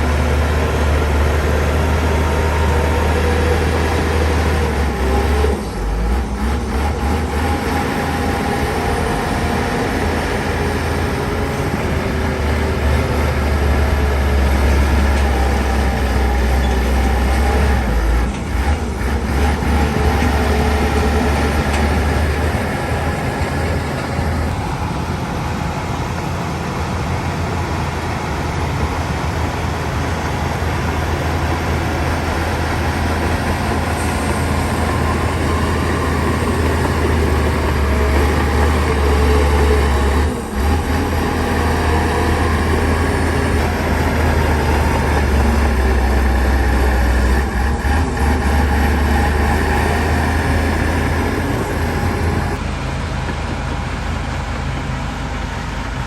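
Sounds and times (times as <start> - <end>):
diesel earthmoving machinery rumbling: 0.0 - 56.0.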